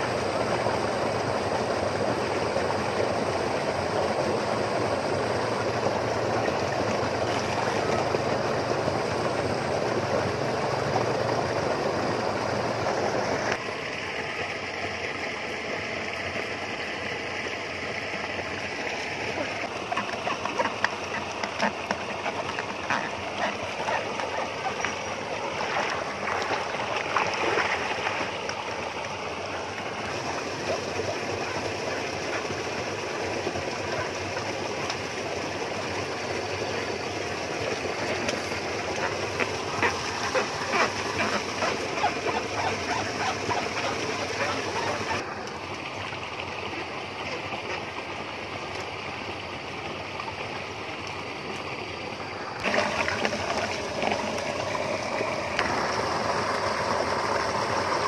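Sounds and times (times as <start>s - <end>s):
water splashing in a pond: 0.0s - 58.0s.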